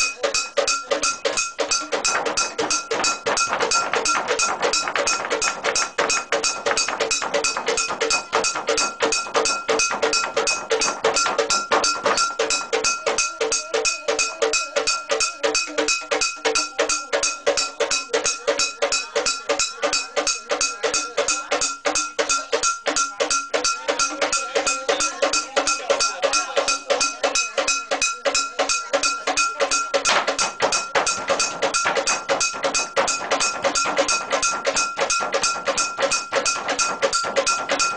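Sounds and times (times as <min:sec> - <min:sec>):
metal gongs struck in fast beat: 0:00.0 - 0:37.9.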